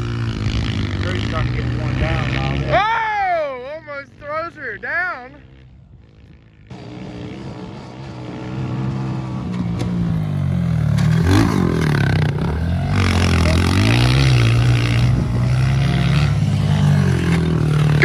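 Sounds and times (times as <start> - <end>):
off-road engines revving: 0.0 - 18.0.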